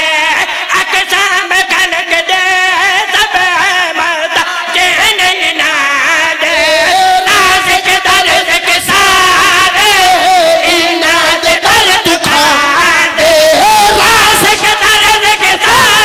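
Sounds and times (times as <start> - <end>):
person chanting a verse: 0.0 - 16.0.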